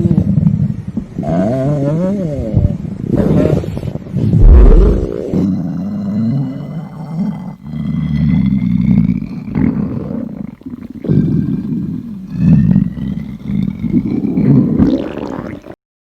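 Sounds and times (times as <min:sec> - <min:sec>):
stomach growling: 0:00.0 - 0:15.8.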